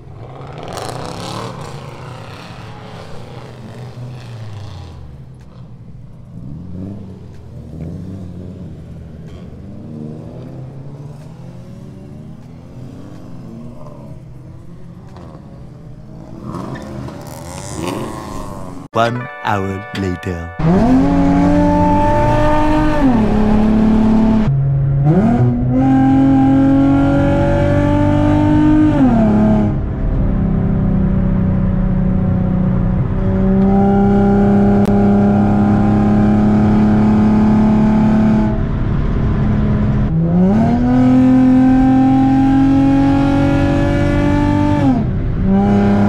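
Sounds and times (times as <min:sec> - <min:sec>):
car engine revving through exhaust: 0:00.0 - 0:18.8, 0:20.7 - 0:46.0.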